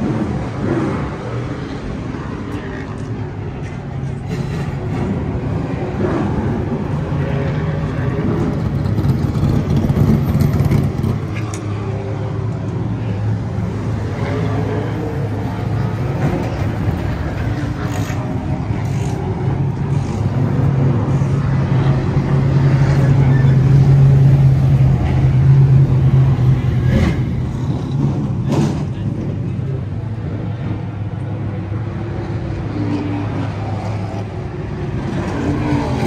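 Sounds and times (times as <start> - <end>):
race car engines droning: 0.0 - 36.0.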